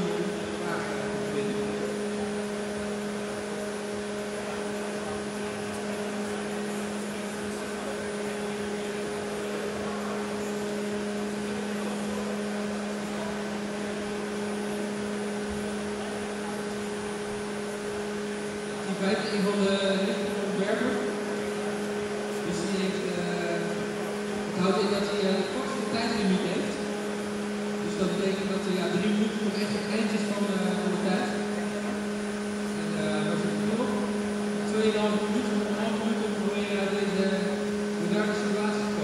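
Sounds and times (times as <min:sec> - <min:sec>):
large fans humming: 0:00.0 - 0:39.0.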